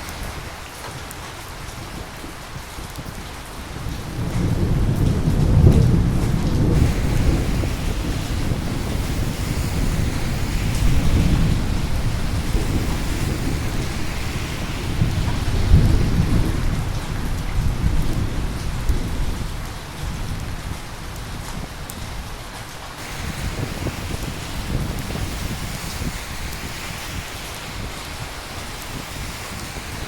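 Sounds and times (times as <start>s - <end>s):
steady rain falling: 0.0s - 30.0s
rolling thunder: 1.8s - 22.3s, 23.0s - 30.0s.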